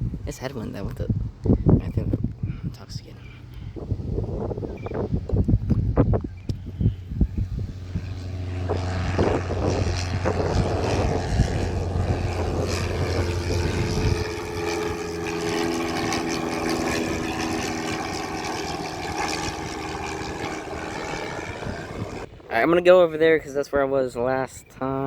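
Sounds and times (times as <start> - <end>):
strong low hum: 0.0 - 22.6
aircraft engine and propeller droning: 0.0 - 22.7
wind noise on microphone: 0.0 - 23.6.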